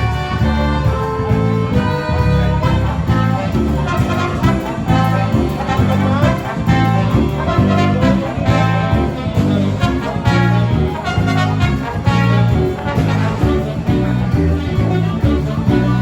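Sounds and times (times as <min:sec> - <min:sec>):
jazzy brass music with bass beat: 0:00.0 - 0:16.0.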